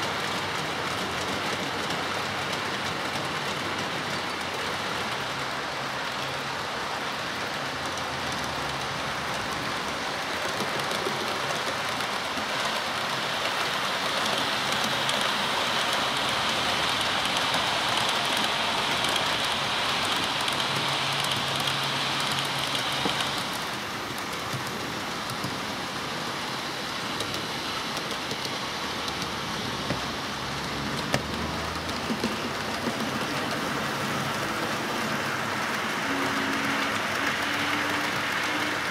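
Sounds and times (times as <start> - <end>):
model train wheels rolling on track: 0.0 - 38.9.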